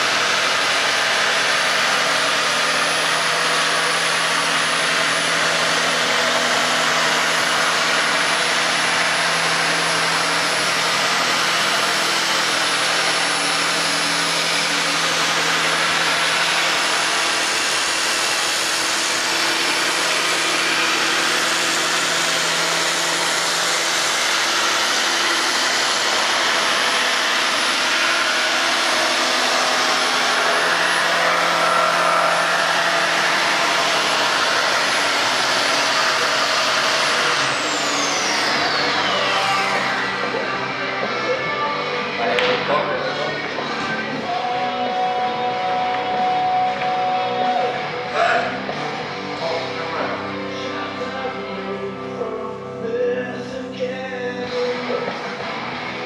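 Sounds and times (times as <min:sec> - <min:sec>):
belt sander grinding wood: 0:00.0 - 0:53.2.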